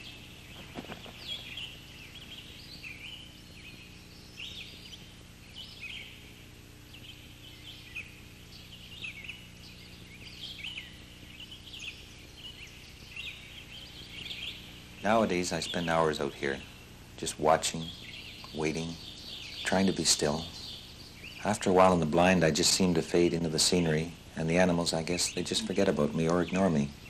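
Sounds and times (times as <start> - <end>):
birds chirping: 0.0 - 27.0
faint low hum: 0.0 - 27.0.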